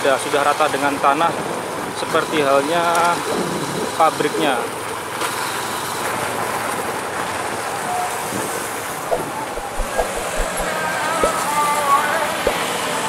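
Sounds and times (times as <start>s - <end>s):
wind and tyre road noise: 0.0s - 13.0s.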